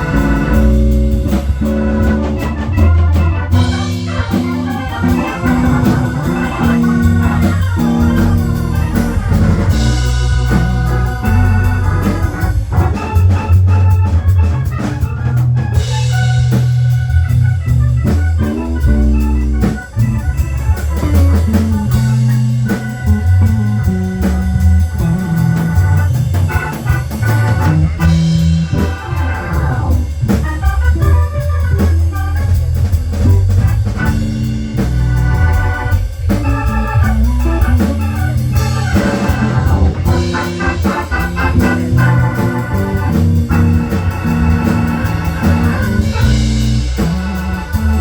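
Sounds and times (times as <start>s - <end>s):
bass: 0.0s - 48.0s
drum kit: 0.0s - 48.0s
organ melody: 0.0s - 48.0s.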